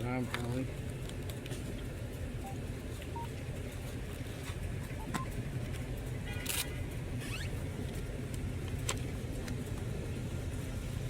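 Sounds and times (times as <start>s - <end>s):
motor vehicles rumbling: 0.0s - 11.0s.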